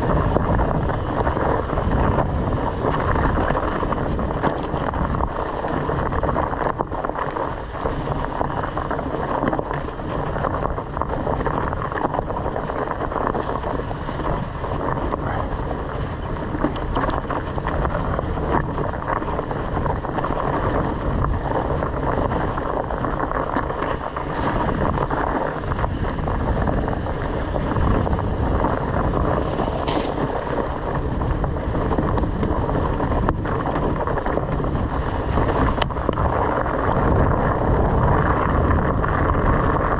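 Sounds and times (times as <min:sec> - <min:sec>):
bike knocks and rattles: 0:00.0 - 0:39.9
tyre rumble: 0:00.0 - 0:39.9
wind on microphone: 0:00.0 - 0:39.9.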